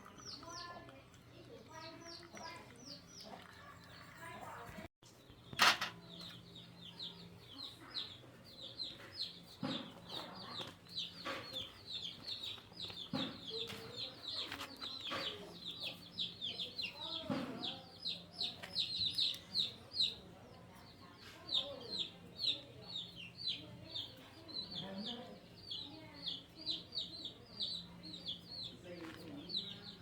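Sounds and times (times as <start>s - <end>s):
chicks peeping: 0.0s - 4.6s, 5.2s - 30.0s.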